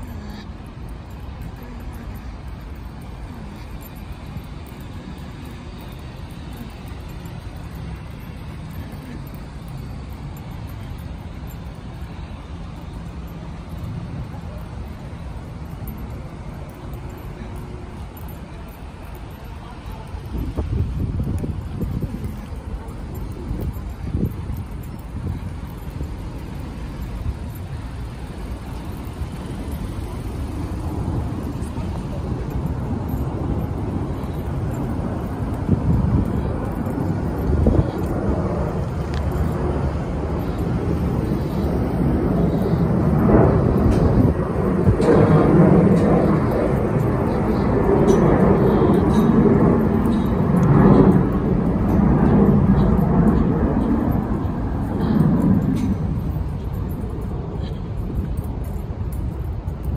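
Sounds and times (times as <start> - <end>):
slow traffic rumble: 0.0 - 59.9.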